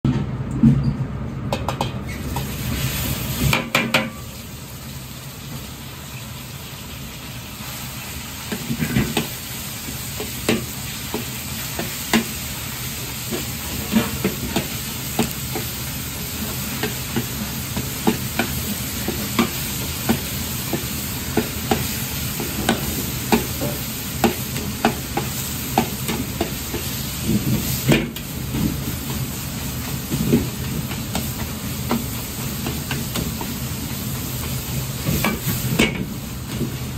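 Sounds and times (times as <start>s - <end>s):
meat sizzling in hot oil: 2.1s - 36.9s.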